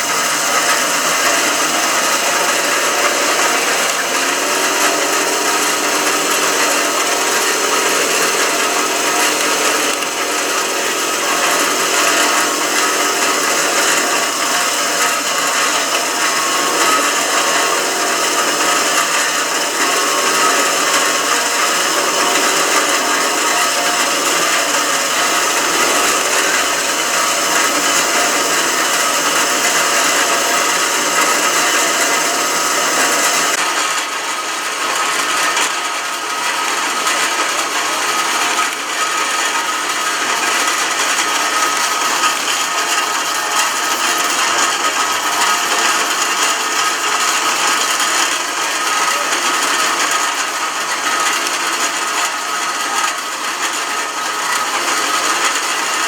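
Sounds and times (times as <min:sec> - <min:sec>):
small electric motors whining: 0:00.0 - 0:56.0.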